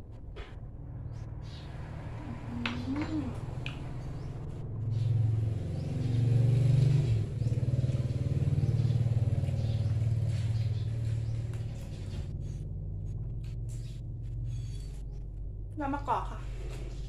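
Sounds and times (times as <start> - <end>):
engine revving and idling: 0.6 - 17.0.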